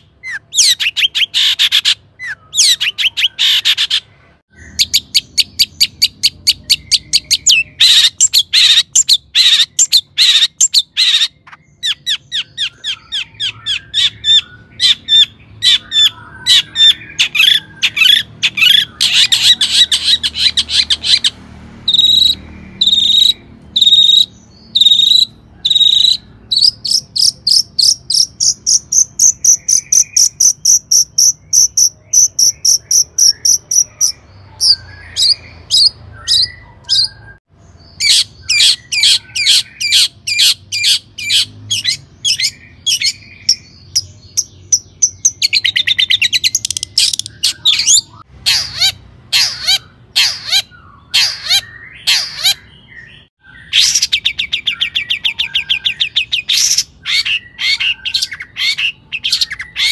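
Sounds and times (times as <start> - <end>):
shrike singing: 0.0 - 59.9.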